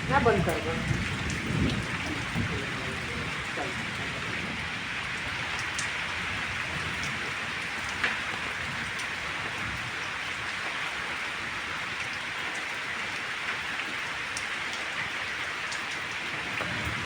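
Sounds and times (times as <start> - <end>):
raindrop ticks: 0.0 - 10.8, 11.9 - 17.0
steady rain falling: 0.0 - 17.0.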